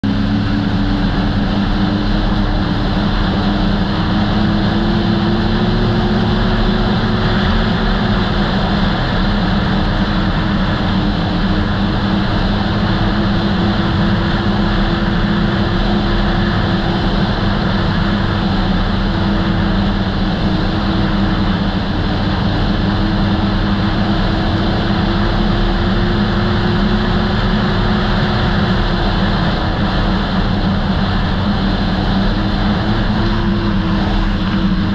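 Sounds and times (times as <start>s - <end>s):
constant rushing noise: 0.0s - 34.9s
snowmobile engine cruising: 0.0s - 34.9s.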